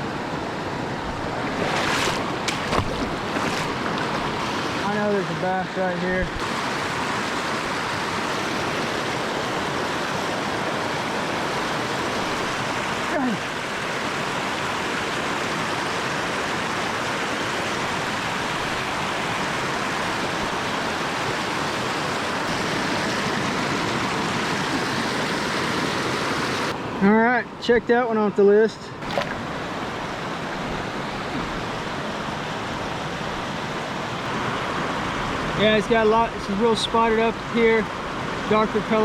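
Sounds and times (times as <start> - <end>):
river water rushing: 0.0 - 27.6, 28.9 - 39.0.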